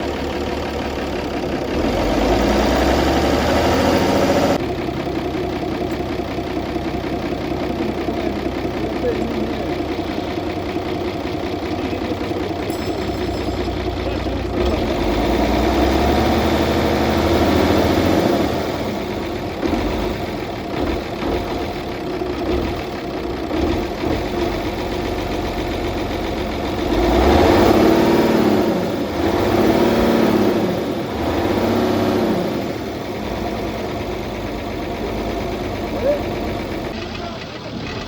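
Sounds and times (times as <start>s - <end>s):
truck diesel engine idling: 0.0s - 38.0s.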